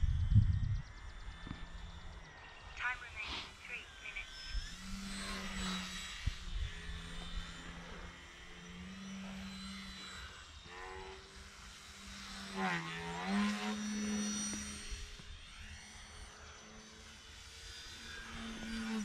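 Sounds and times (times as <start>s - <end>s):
model plane motor droning: 0.0s - 19.0s.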